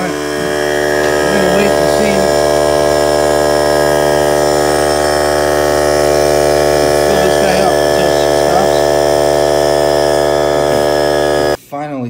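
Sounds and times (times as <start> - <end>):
electric air compressor humming: 0.0 - 11.6.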